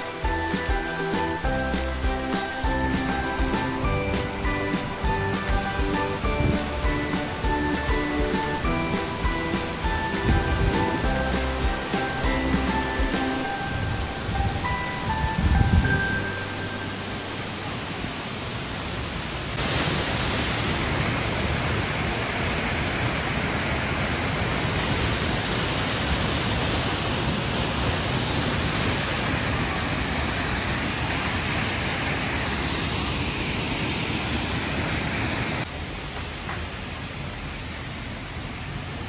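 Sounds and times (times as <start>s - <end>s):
waterfall rushing: 0.0s - 36.1s.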